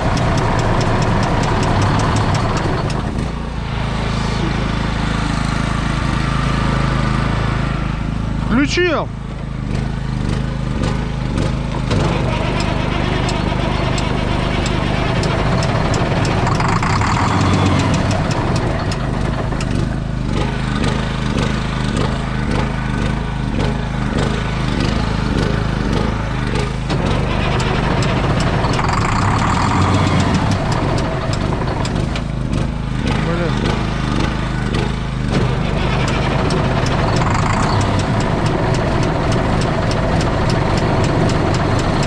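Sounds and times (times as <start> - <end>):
engine running with rapid pulsing: 0.0 - 42.0.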